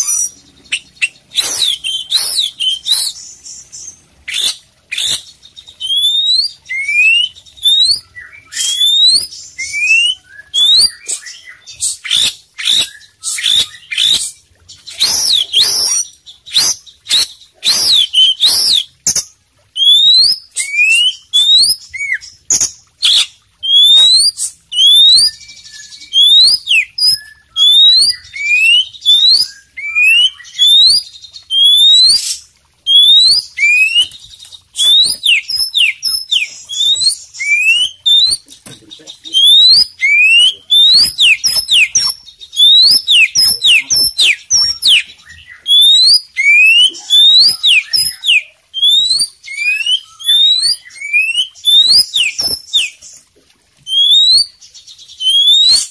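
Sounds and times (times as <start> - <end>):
bird singing whistled notes: 0.0 - 14.3, 14.9 - 19.2, 19.8 - 53.0, 53.9 - 55.9.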